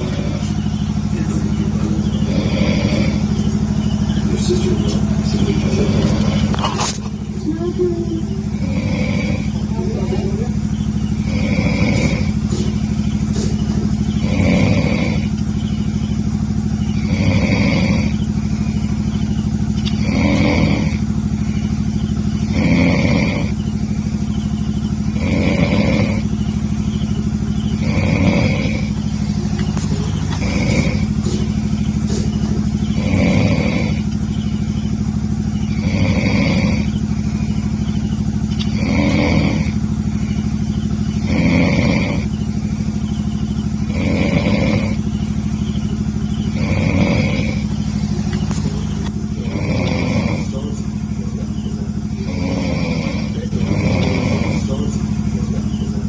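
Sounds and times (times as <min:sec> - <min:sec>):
night animal calling: 0:00.0 - 0:56.0
steady low hum: 0:00.0 - 0:56.0.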